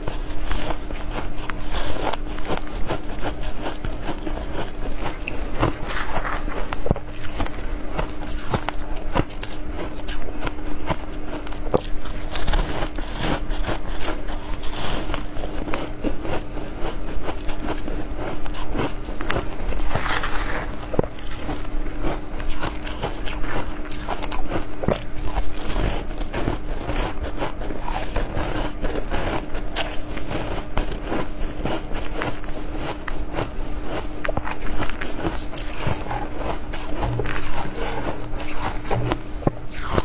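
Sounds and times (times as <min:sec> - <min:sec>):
crunching and chewing ice: 0:00.0 - 0:40.0
steady low hum: 0:00.0 - 0:40.0.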